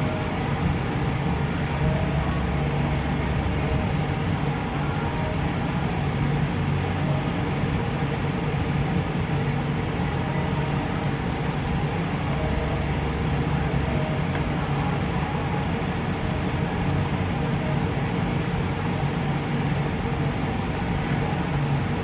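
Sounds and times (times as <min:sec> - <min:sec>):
steady droning hum and hiss: 0:00.0 - 0:22.0.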